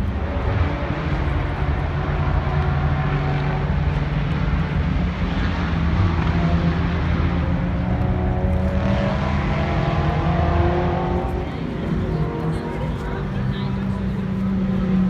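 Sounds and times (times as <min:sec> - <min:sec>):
engines droning: 0:00.0 - 0:15.0.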